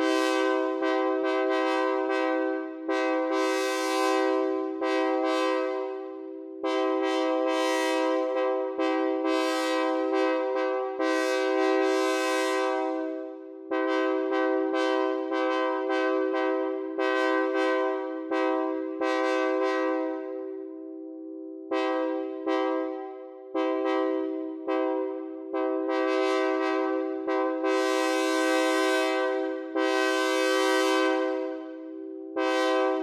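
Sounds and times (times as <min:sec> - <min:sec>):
synthesized train horn blasts: 0:00.0 - 0:20.7, 0:21.6 - 0:33.0.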